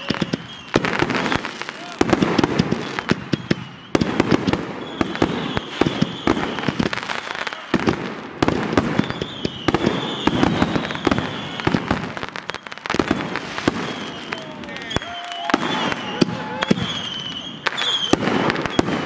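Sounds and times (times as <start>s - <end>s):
fireworks bangs and bursts: 0.0s - 19.0s
high firework whistling: 0.0s - 19.0s.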